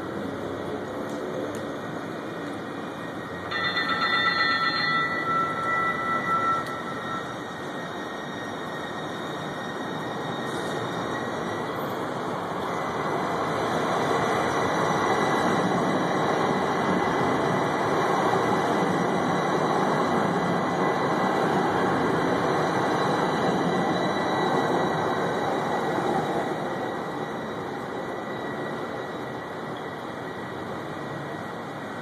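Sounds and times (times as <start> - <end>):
light rail train passing: 0.0 - 32.0.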